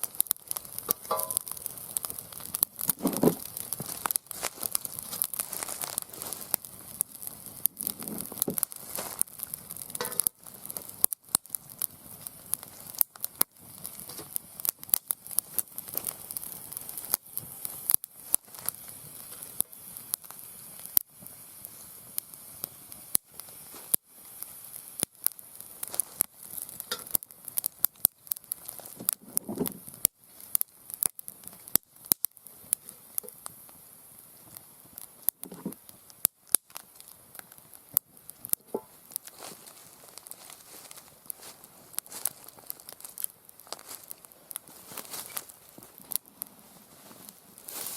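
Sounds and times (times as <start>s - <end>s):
fire hissing: 0.0s - 47.9s
wood fire crackling and popping: 0.0s - 47.9s.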